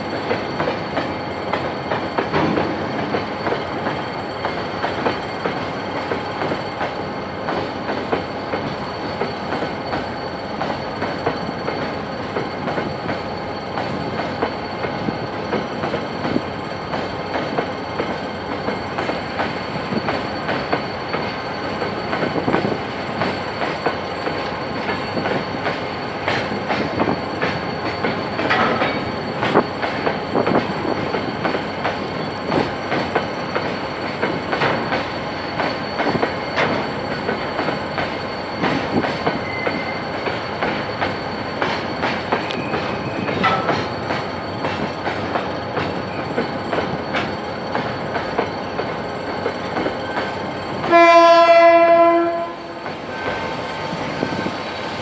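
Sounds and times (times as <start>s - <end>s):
thin steady squeal: 0.0s - 55.0s
train wheels clattering over rails: 0.0s - 55.0s.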